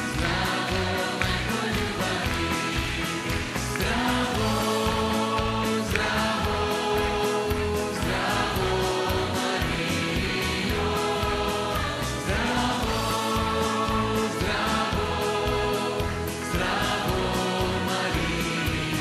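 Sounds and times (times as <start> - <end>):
choir singing a hymn: 0.0 - 19.0
instrumental backing: 0.0 - 19.0.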